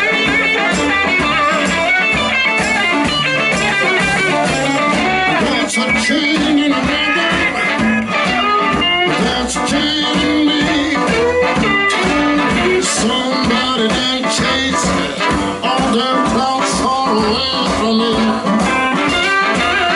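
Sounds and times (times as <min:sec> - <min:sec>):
electric guitar: 0:00.0 - 0:19.9
live blues band playing: 0:00.0 - 0:19.9.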